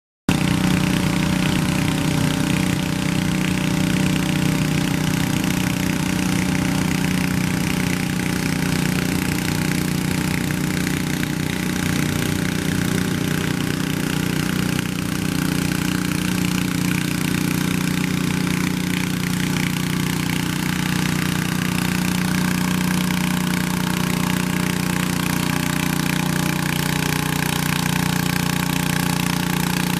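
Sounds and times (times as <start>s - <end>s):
garden tractor engine running: 0.3s - 29.9s.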